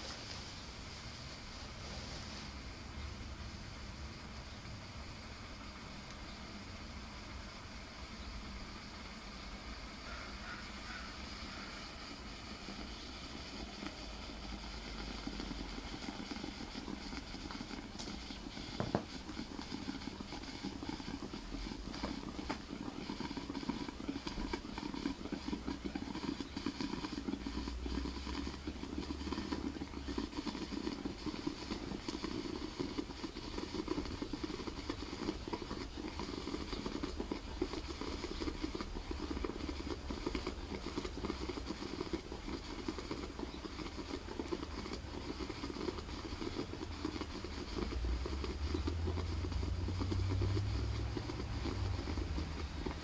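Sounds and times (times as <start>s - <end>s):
acid bubbling and crackling: 0.0s - 53.0s.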